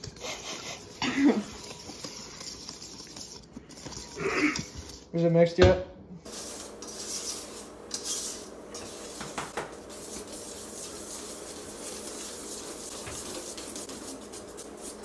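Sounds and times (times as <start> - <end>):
utensil scraping metal bowl: 0.0 - 5.2, 6.2 - 15.0.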